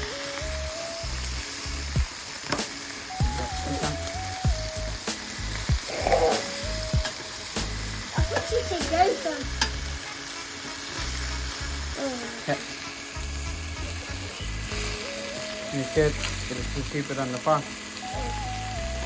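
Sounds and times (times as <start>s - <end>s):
meat sizzling on a grill: 0.0s - 19.0s
music playing: 0.0s - 19.0s.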